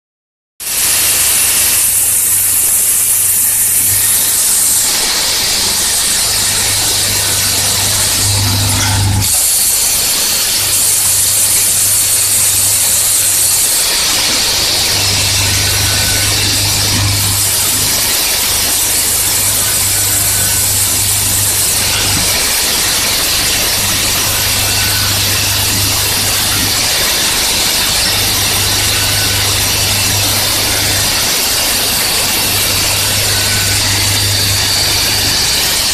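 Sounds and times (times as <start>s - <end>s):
machine hiss and rattle: 0.6s - 35.9s.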